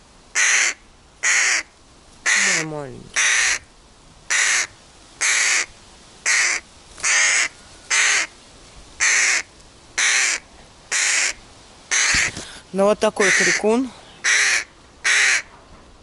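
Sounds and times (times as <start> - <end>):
crow cawing: 0.4 - 3.7, 4.3 - 8.4, 9.0 - 12.5, 13.2 - 15.5.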